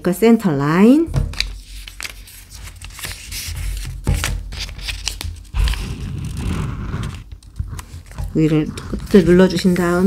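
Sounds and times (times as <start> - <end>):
paper crinkles: 1.3 - 10.0
paper rustling and creasing: 1.3 - 10.0.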